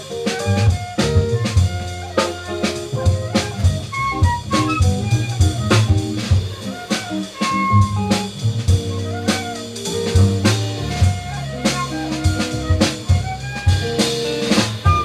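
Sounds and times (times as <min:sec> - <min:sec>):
drum kit beat: 0:00.0 - 0:15.0
live jazz band playing: 0:00.0 - 0:15.0.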